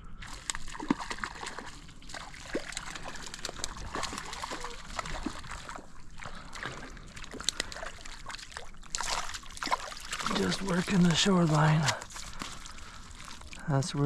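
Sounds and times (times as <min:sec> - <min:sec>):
fish splashing at water surface: 0:00.2 - 0:13.8.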